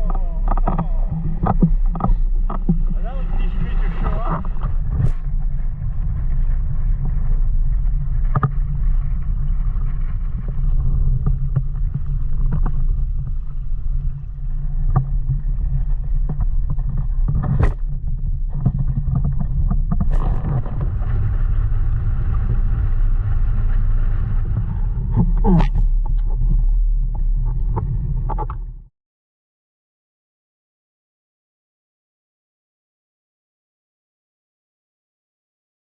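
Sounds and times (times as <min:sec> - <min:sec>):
wind buffeting microphone: 0:00.0 - 0:28.8.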